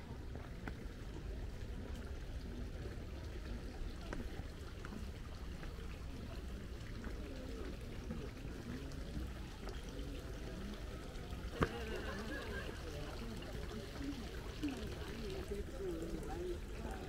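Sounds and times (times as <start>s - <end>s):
faint murmuring voices: 0.0s - 17.0s
trickling water: 0.0s - 17.0s.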